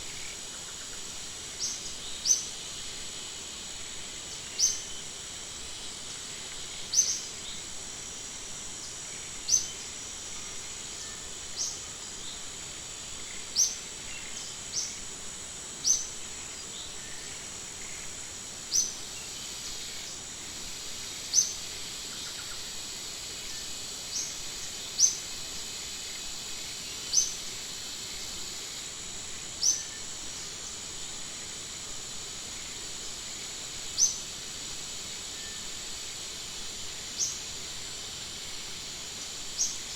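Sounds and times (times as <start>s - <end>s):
high-pitched insect hiss: 0.0s - 39.9s.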